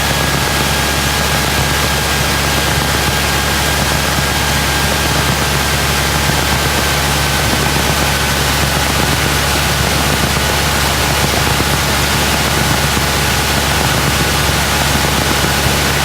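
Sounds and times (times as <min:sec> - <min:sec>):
light aircraft engine idling: 0:00.0 - 0:16.0
rush of air noise: 0:00.0 - 0:16.0.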